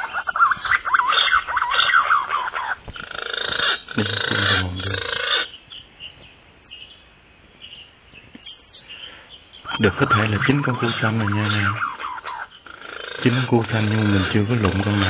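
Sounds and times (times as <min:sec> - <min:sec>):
pigeons whistled calls: 0:00.0 - 0:07.0, 0:07.6 - 0:15.0.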